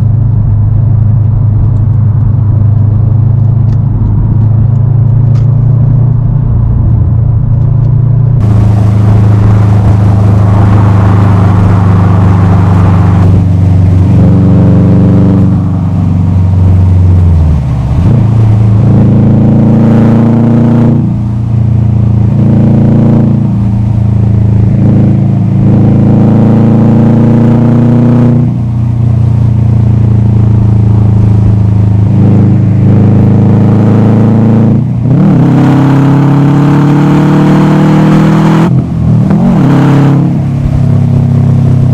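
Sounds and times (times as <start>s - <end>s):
car engine revving while driving: 0.0s - 41.9s.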